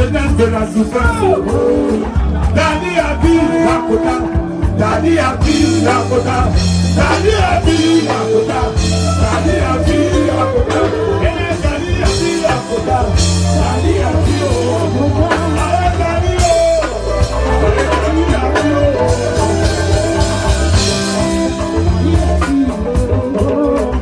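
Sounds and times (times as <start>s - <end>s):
drum kit with cymbal strikes: 0.0s - 24.0s
heavy bass line: 0.0s - 24.0s
voices singing: 0.0s - 24.0s.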